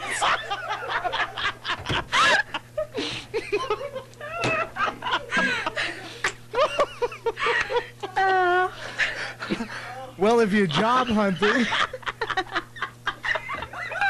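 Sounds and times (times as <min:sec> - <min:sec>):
people laughing: 0:00.0 - 0:10.0, 0:10.8 - 0:14.0.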